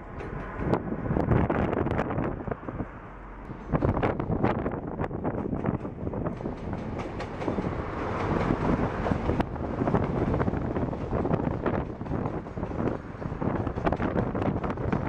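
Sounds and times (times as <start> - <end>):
wheels clattering on track: 0.0 - 2.0, 3.4 - 15.0
locomotives passing: 0.0 - 15.0
rail rumble: 0.0 - 15.0.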